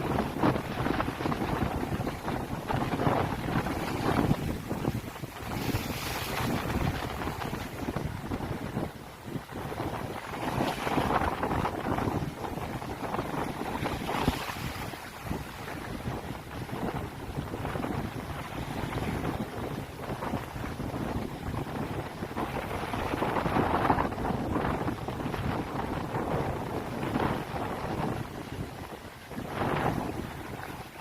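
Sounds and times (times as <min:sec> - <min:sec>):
waves washing: 0:00.0 - 0:31.0
wind buffeting microphone: 0:00.0 - 0:31.0.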